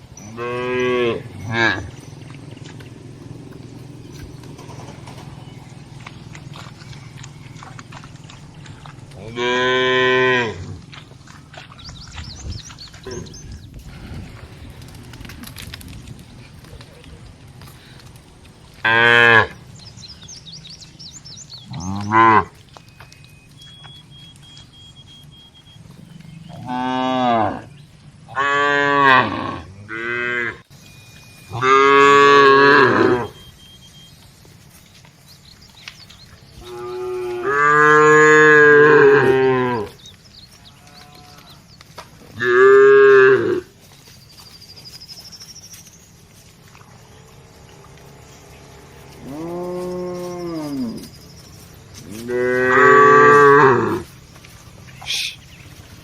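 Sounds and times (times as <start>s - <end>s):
cattle mooing: 0.2s - 11.9s, 12.7s - 15.9s, 16.6s - 30.6s, 31.4s - 34.1s, 35.8s - 43.8s, 46.7s - 55.9s.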